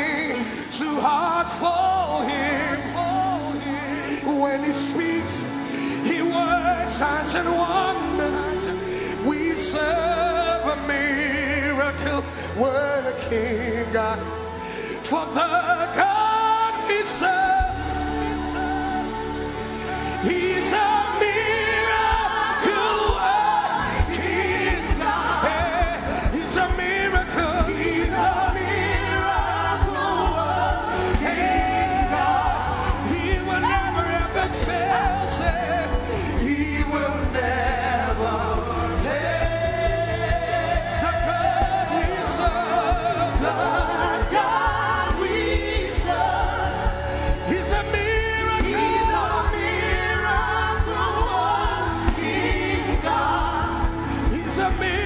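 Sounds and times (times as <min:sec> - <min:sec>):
gospel worship music: 0:00.0 - 0:55.0.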